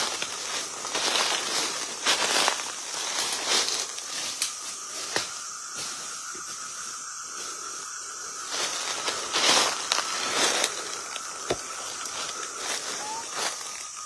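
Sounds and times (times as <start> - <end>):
night insects droning: 0.0 - 14.0
rustling hiss: 0.0 - 14.0.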